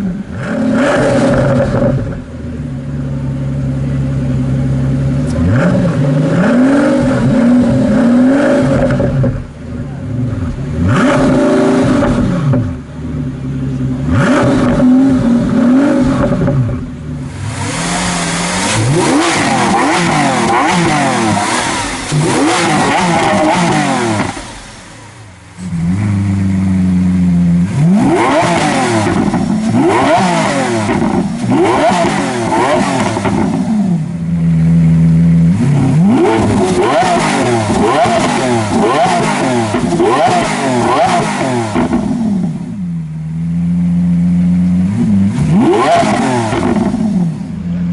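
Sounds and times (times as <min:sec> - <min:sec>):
sports car engine mild revs: 0:00.0 - 0:47.9
sports car engine revving: 0:00.0 - 0:47.9.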